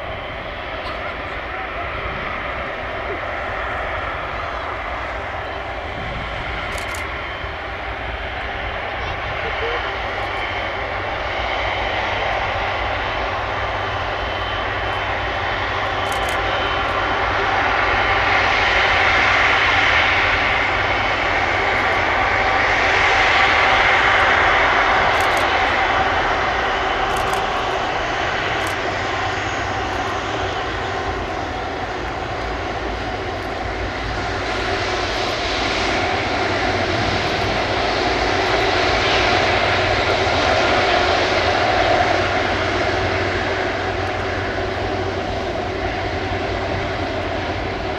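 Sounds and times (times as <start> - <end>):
jet engines whining at taxi power: 0.0 - 47.9.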